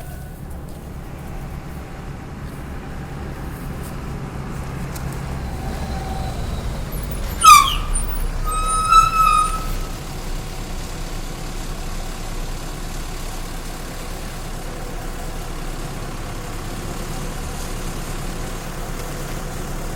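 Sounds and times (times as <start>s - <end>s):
street traffic noise: 0.0s - 19.9s.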